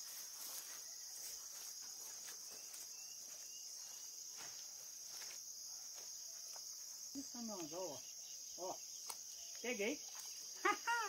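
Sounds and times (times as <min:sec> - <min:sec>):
insects buzzing in grass: 0:00.0 - 0:11.0.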